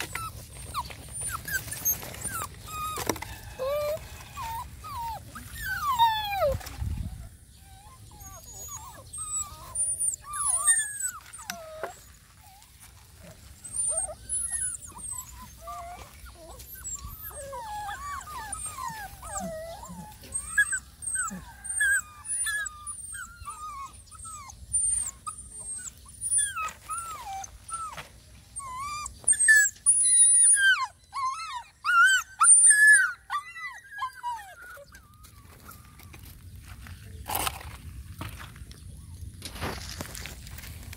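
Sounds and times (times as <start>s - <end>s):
puppies whimpering and crying: 0.0s - 36.5s.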